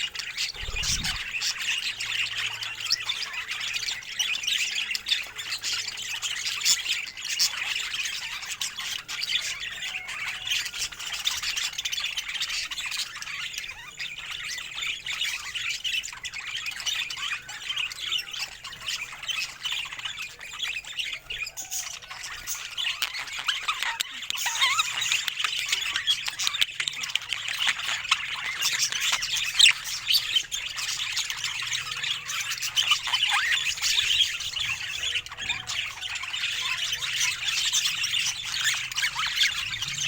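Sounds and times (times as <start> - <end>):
budgerigars chattering and squawking: 0.0 - 40.0.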